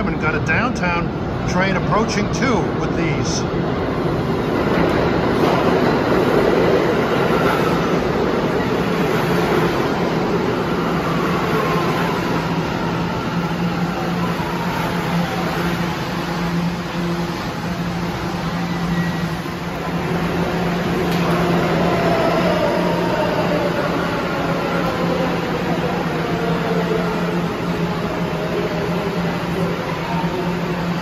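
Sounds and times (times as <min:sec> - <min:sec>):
subway train braking: 0:00.0 - 0:31.0.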